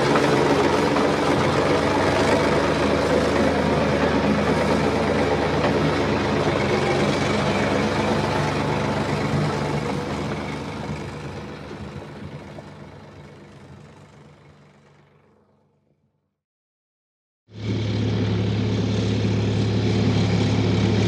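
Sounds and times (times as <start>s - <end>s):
engine humming: 0.0s - 16.0s, 17.5s - 21.0s.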